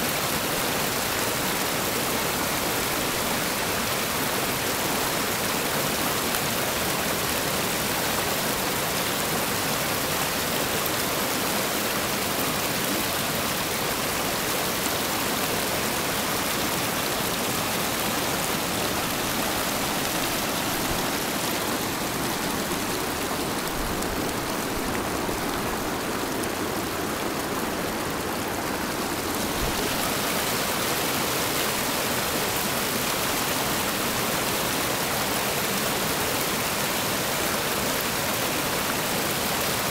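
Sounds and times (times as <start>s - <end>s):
rapids rushing over rocks: 0.0s - 39.9s.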